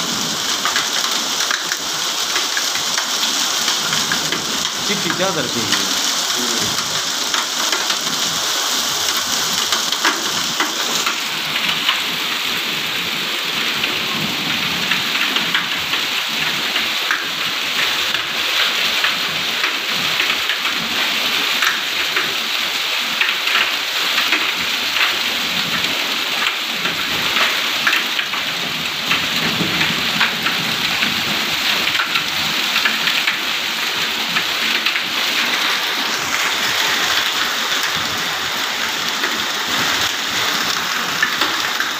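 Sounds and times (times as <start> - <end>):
hailstones ticking on concrete: 0.0 - 41.9
heavy rain hissing: 0.0 - 41.9.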